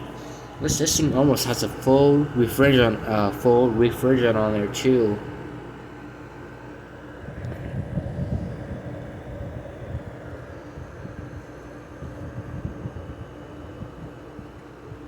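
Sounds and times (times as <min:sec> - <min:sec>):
airflow buffeting microphone: 0:00.0 - 0:15.0
window air conditioner humming: 0:00.0 - 0:15.0.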